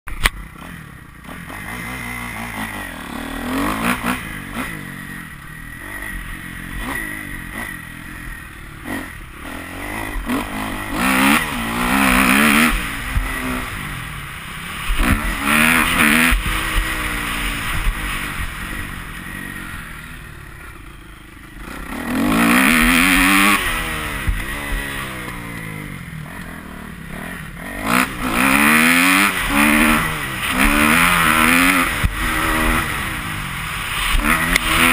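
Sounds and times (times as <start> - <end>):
motocross bike engine revving: 0.1 - 34.9.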